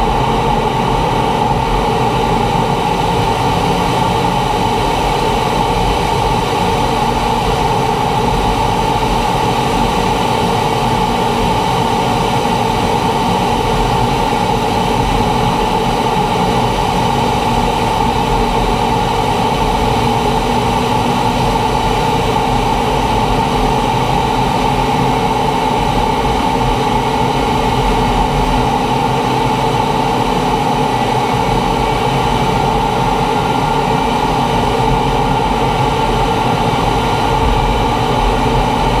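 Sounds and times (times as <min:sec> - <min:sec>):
jet engine whine: 0:00.0 - 0:39.0
rush of air noise: 0:00.0 - 0:39.0.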